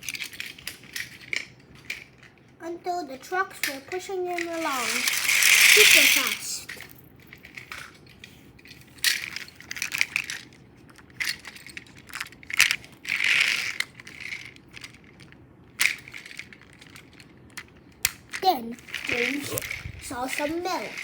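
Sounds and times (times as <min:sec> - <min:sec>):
toy train clattering on track: 0:00.0 - 0:21.0.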